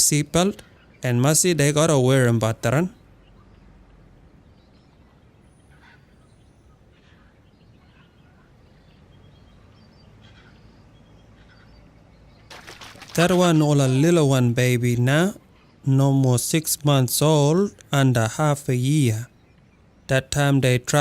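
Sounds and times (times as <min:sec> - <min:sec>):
faint background noise: 0:00.0 - 0:21.0
faint bird chirps: 0:00.1 - 0:21.0.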